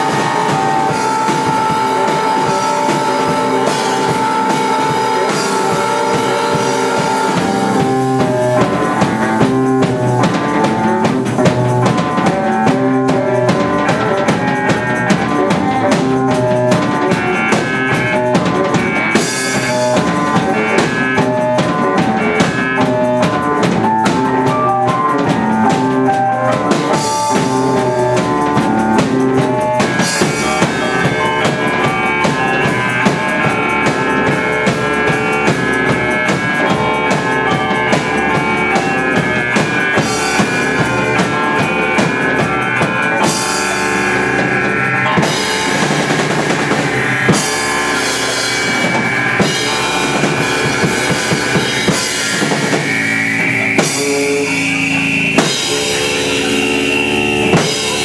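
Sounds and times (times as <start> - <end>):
live band instrumental: 0.0 - 58.0.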